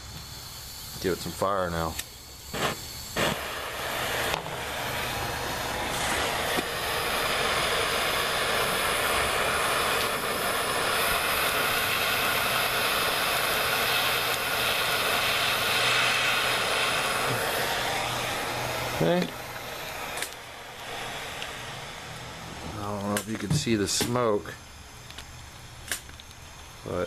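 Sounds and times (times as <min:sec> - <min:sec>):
compressed air hissing: 0:00.0 - 0:27.0
gas torch hissing: 0:00.0 - 0:27.0
torch ignition click: 0:01.8 - 0:24.4, 0:25.0 - 0:26.5.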